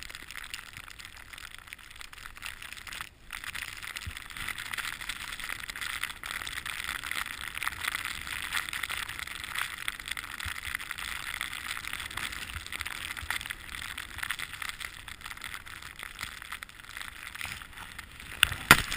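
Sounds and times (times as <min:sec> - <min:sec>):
crackling scrapes on snow: 0:00.0 - 0:18.9.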